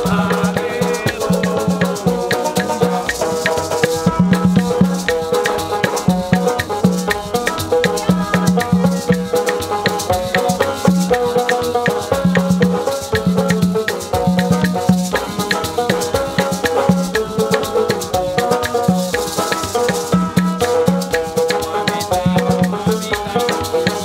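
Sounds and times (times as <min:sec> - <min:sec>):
acoustic guitar: 0:00.0 - 0:24.0
hand percussion rhythm: 0:00.0 - 0:24.0
strummed banjo: 0:00.0 - 0:24.0.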